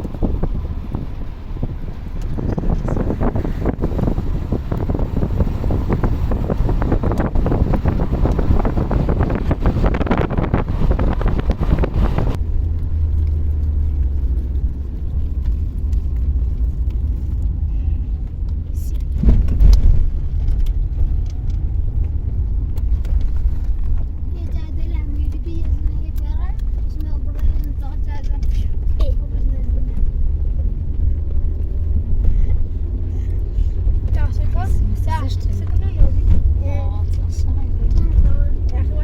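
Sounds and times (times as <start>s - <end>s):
vehicle engine and road noise: 0.0s - 39.0s
wind noise: 0.0s - 39.0s.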